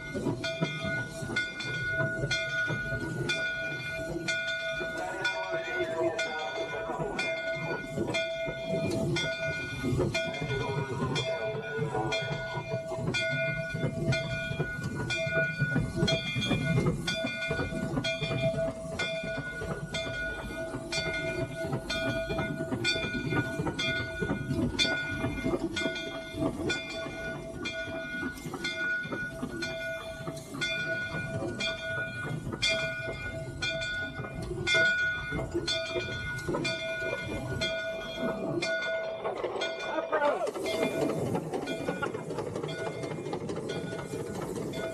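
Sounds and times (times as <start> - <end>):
steam locomotive rumble: 0.0 - 44.9.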